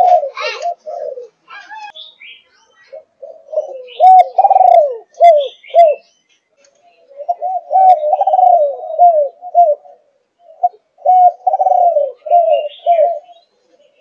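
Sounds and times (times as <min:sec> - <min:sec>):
dove cooing: 0:00.0 - 0:02.0, 0:02.9 - 0:06.0, 0:07.0 - 0:14.0.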